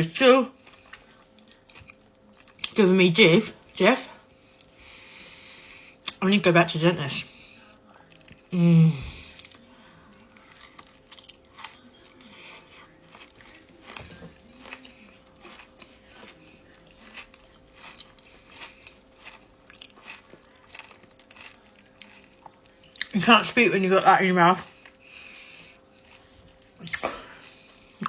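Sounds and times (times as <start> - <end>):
person chewing crunchy chocolate: 0.0 - 2.9, 7.2 - 28.0.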